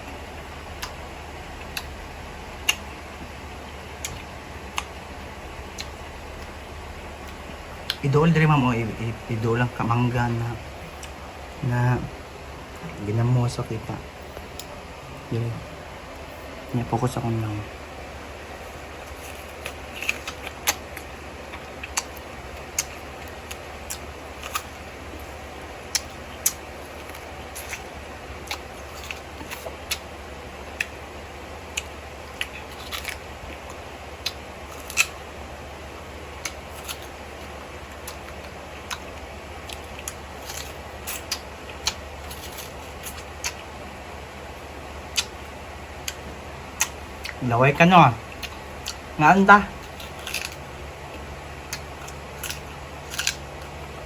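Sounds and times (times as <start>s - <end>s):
steady low hum: 0.0s - 54.0s
chewing mango crunches: 0.1s - 11.2s, 18.1s - 54.0s.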